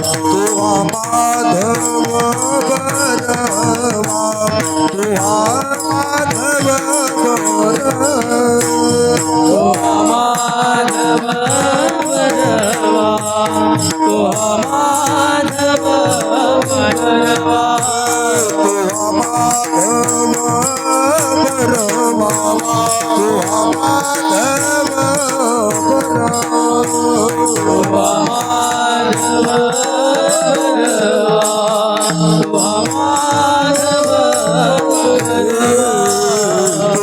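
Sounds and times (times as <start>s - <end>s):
jingling rattle percussion: 0.0s - 37.0s.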